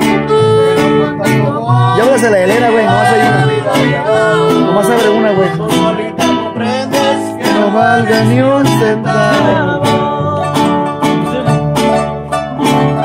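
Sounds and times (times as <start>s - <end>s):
harp playing: 0.0s - 13.0s
small guitar strumming: 0.0s - 13.0s
violin melody: 0.0s - 13.0s.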